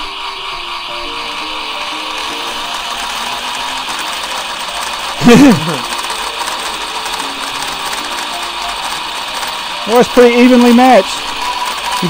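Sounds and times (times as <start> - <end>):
gear and ratchet chatter: 0.0 - 12.0
toy train motors whirring: 0.0 - 12.0.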